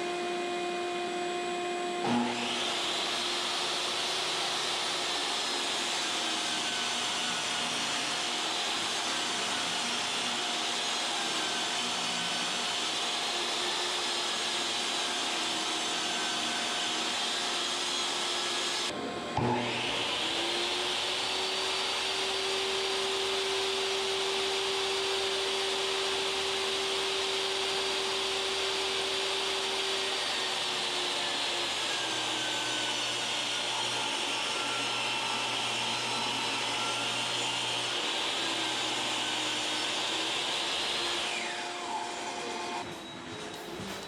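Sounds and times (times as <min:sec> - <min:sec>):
table saw motor running: 0:00.0 - 0:42.9, 0:43.6 - 0:44.0.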